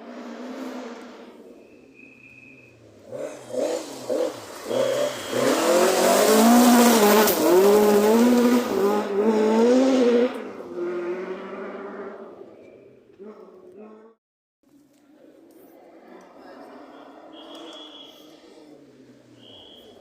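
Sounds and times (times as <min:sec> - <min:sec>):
rally car engine revving: 0:00.0 - 0:14.2, 0:16.3 - 0:20.0.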